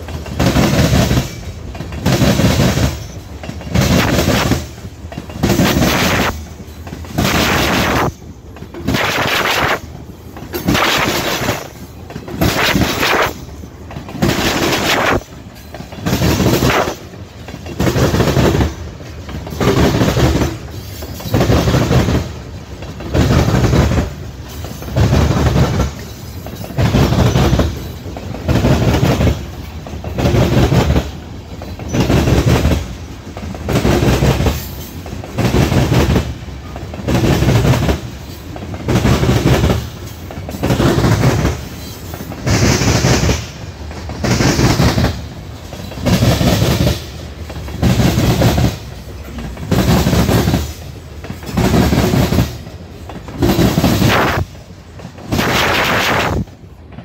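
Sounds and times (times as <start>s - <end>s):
train wheels clattering over track: 0.0s - 57.0s.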